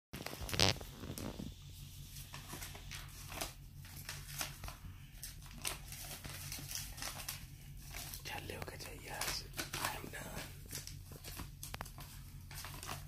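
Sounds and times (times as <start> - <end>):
faint low hum: 0.2 - 13.0
paper rustling and crinkling: 0.2 - 13.0.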